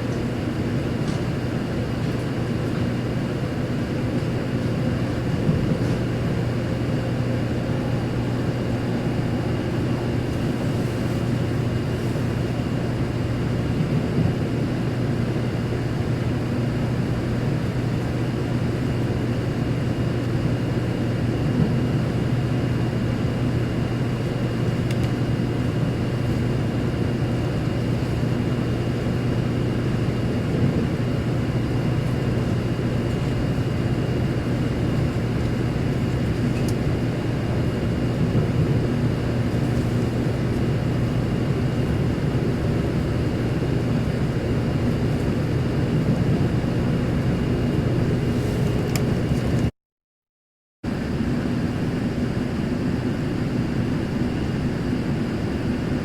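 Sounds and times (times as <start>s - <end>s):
train interior rumble and hum: 0.0s - 49.7s.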